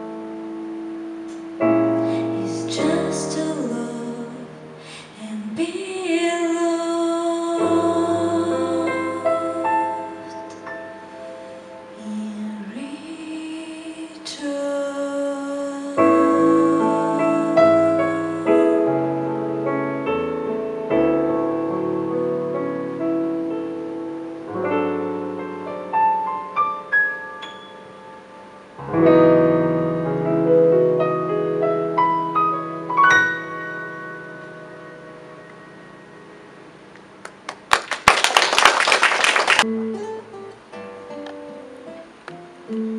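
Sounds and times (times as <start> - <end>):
slow piano chords and melody: 0.0 - 37.5.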